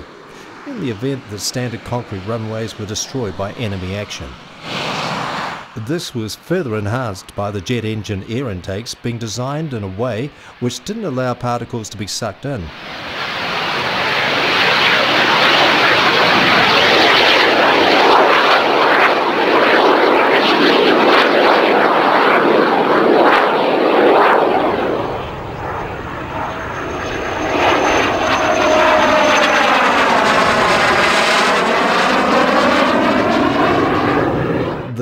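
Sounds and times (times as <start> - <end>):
jet flying past: 0.0 - 35.0.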